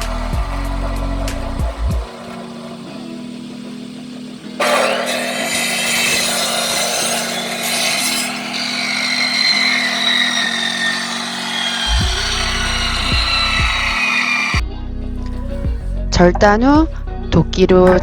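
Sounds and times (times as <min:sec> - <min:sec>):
power saw cutting log: 0:00.0 - 0:14.6.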